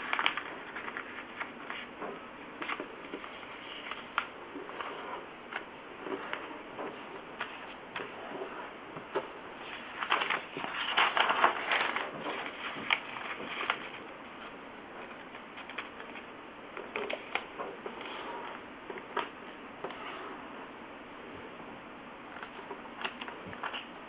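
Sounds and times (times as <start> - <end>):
paper rustling and folding: 0.0 - 20.4, 22.3 - 24.0.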